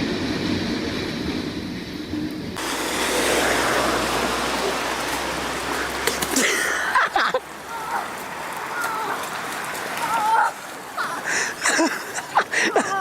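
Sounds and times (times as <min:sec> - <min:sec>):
heavy rain pouring: 0:02.6 - 0:13.0.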